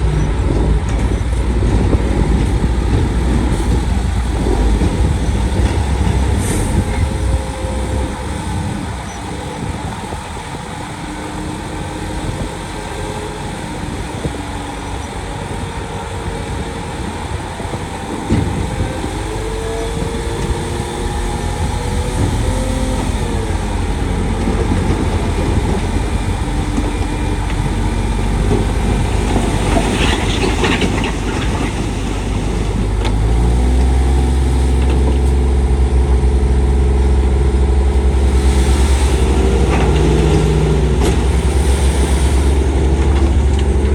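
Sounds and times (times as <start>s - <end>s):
diesel earthmoving machine engine: 0.0s - 43.9s.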